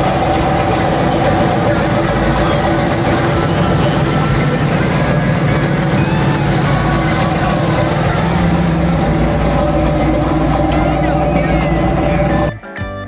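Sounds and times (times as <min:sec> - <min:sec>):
car engine rumbling at low revs: 0:00.0 - 0:12.5.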